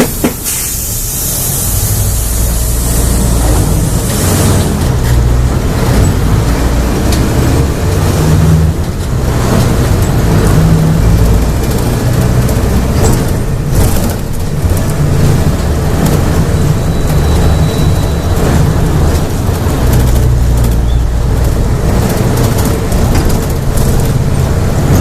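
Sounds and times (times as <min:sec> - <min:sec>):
bus diesel engine revving: 0:00.0 - 0:25.0.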